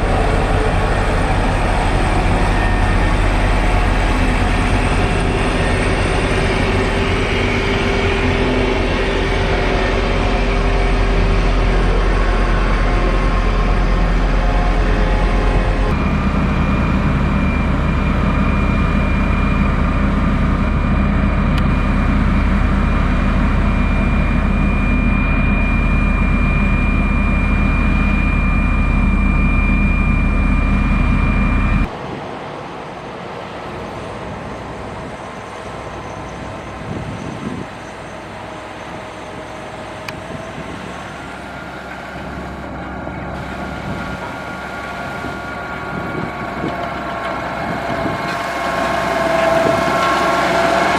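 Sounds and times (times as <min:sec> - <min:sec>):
heavy engine rumbling with whine: 0:00.0 - 0:50.9.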